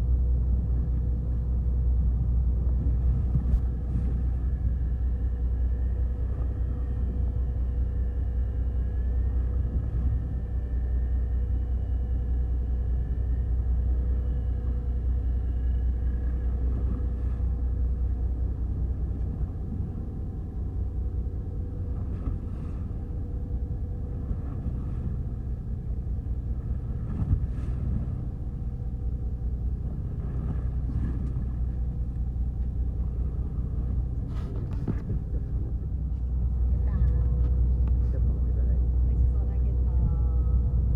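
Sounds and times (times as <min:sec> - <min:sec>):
boat engine rumbling: 0:00.0 - 0:40.9.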